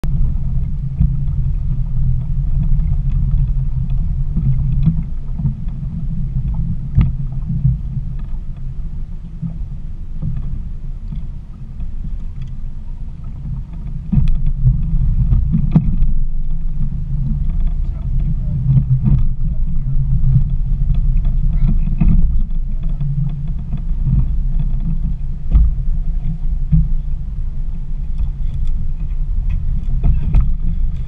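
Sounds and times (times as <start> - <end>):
outboard motor idling: 0.0 - 31.0.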